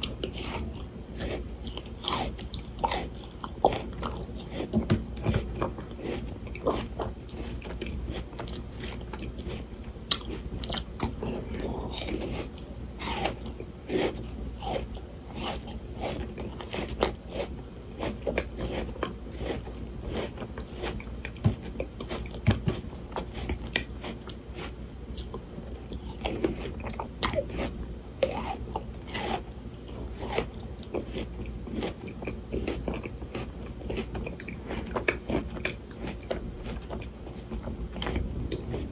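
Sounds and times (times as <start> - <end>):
icy crunching of frozen grapes: 0.0 - 21.1, 22.0 - 38.9
wet chewing: 0.0 - 38.9.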